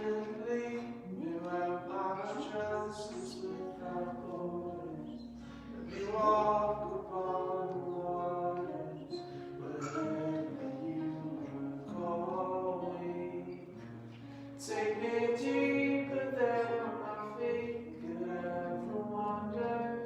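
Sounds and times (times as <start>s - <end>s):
voices singing a slow hymn: 0.0s - 20.0s.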